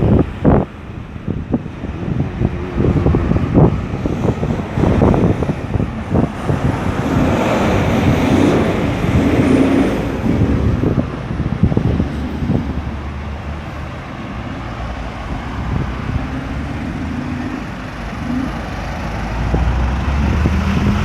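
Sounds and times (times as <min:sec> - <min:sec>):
traffic rumble: 0:00.0 - 0:21.0
large vehicle engine passing: 0:01.6 - 0:21.0.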